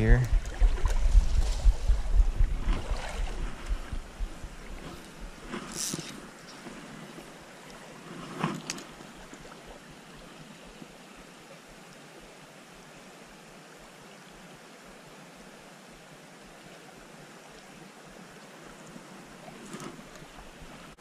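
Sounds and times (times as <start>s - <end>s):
stream running over stones: 0.0s - 21.0s.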